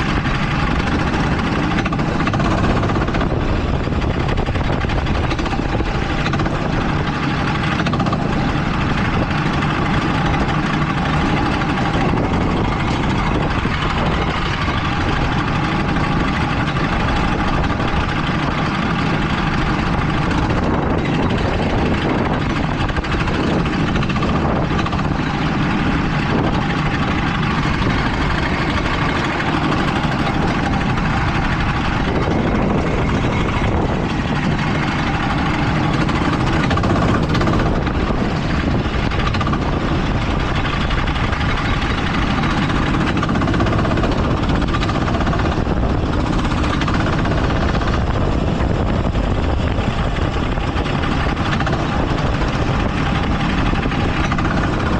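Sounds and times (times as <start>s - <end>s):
go-kart engine running: 0.0s - 54.9s.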